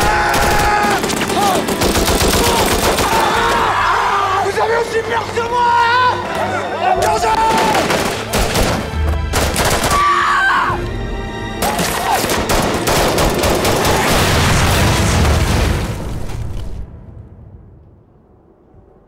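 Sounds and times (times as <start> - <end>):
dramatic trailer music: 0.0 - 18.9.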